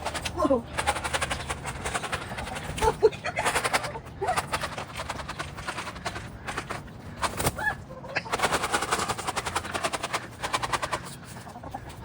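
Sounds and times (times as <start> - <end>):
chickens pecking: 0.0 - 12.0.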